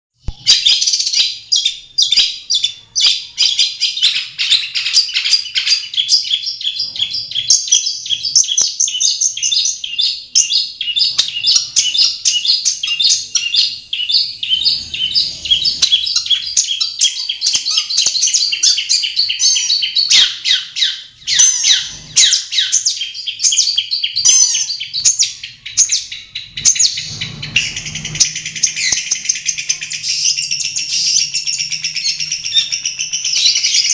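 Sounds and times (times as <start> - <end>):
bird singing rapid short notes: 0.2 - 33.9.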